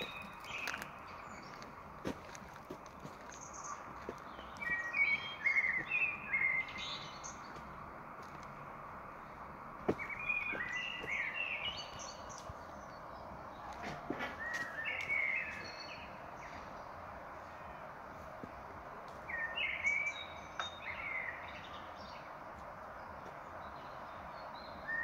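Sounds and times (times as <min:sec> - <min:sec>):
forest background hiss: 0:00.0 - 0:25.0.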